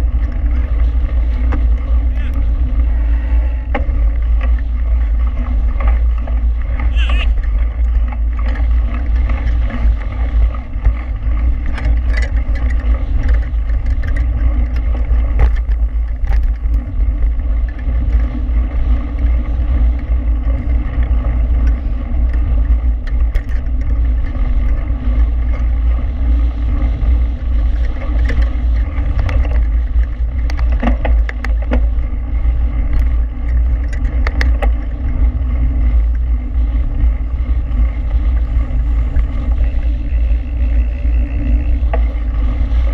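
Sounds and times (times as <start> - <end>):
bike clicks and rattles: 0.0 - 42.9
tyres rolling over gravel: 0.0 - 42.9
wind buffeting microphone: 0.0 - 42.9.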